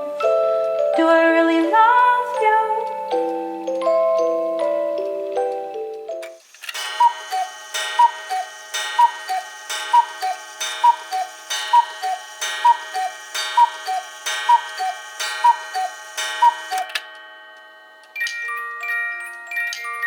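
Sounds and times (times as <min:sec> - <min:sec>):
cuckoo clock calling: 0:00.0 - 0:20.0.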